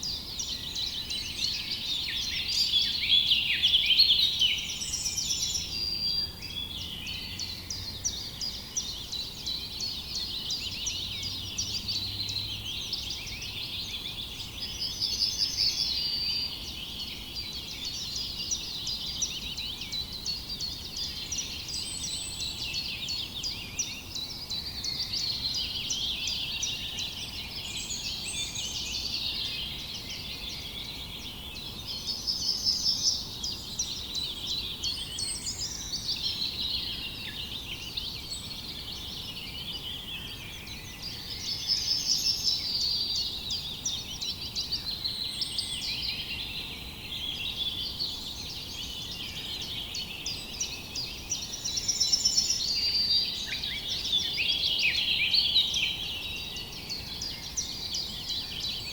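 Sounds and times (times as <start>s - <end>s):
small birds chirping and twittering: 0.0s - 58.9s.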